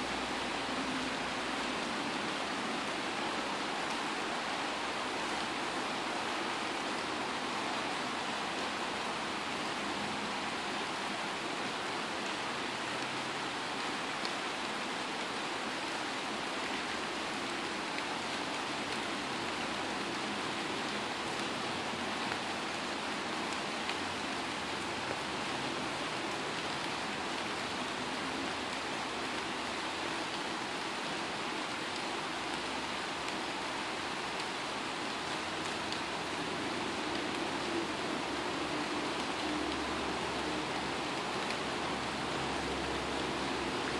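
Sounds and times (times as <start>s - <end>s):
rain falling on foliage: 0.0s - 43.9s.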